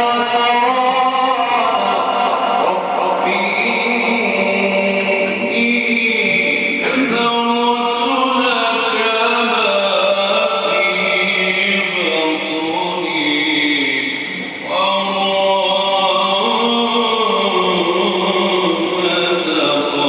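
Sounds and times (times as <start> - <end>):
man chanting melodically: 0.0 - 20.0.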